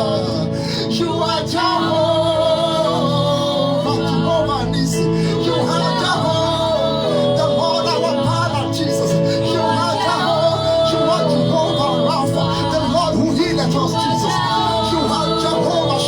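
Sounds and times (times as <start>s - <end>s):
instrumental backing chords: 0.0s - 16.0s
man singing: 0.0s - 16.0s.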